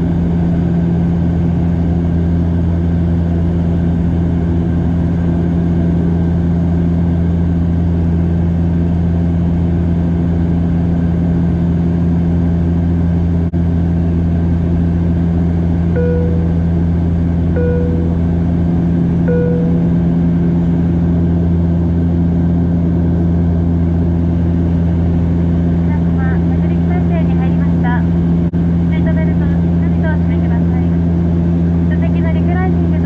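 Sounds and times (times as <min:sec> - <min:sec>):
turboprop engine drone in cabin: 0:00.0 - 0:33.0.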